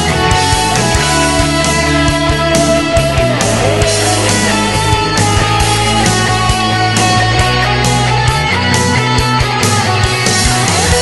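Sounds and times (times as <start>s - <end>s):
instrumental rock music: 0.0s - 11.0s.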